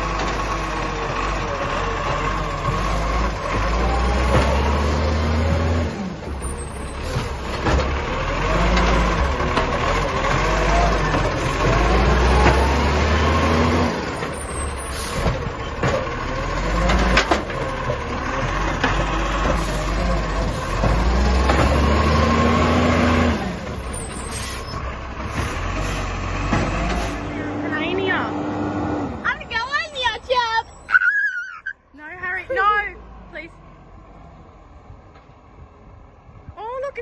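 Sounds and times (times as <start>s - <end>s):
garbage truck engine revving: 0.0s - 30.2s.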